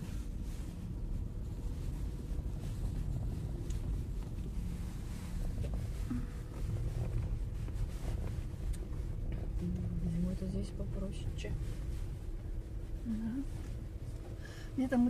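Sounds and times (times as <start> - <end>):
car rumbling on rough road: 0.0 - 15.0.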